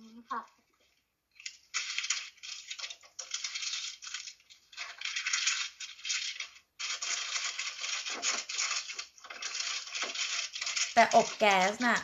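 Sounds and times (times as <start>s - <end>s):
crackly rustling and clattering: 0.0s - 12.0s.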